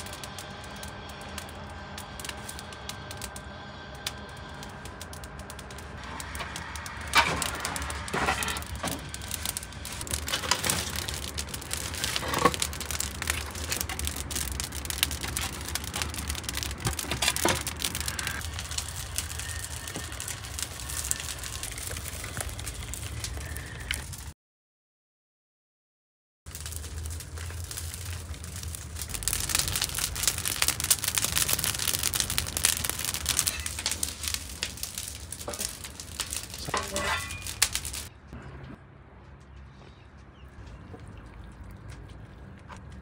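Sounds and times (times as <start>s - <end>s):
wood fire crackling and popping: 0.0s - 24.3s, 26.5s - 38.2s, 41.0s - 43.0s.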